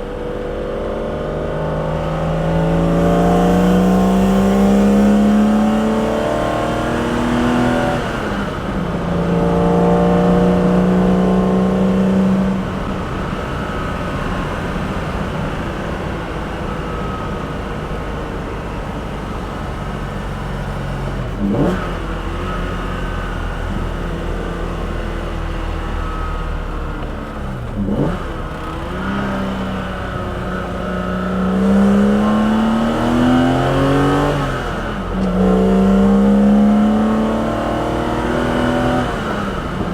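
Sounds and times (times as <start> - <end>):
car engine accelerating hard: 0.0 - 39.9
engine rev blips: 1.8 - 39.9.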